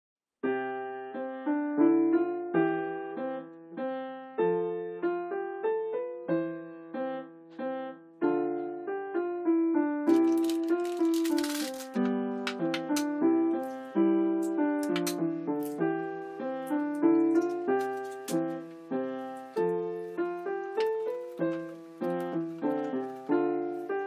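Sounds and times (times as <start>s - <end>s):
piano music: 0.4s - 24.0s.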